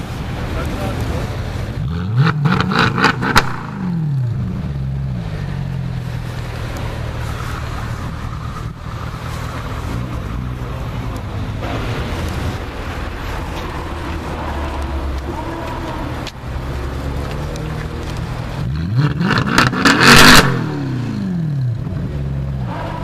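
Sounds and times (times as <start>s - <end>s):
car engine revving and idling: 0.0s - 23.0s
sharp exhaust cracks: 0.6s - 23.0s.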